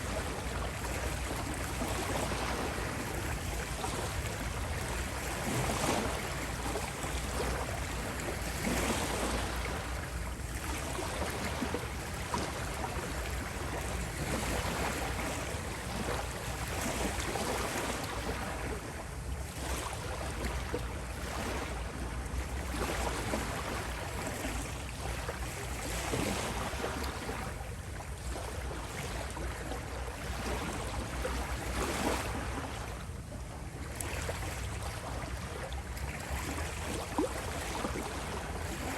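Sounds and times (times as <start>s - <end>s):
waves breaking on beach: 0.0s - 38.9s.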